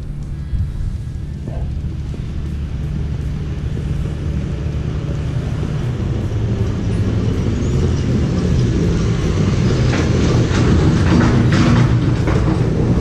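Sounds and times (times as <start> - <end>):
background music with bass line: 0.0 - 11.1.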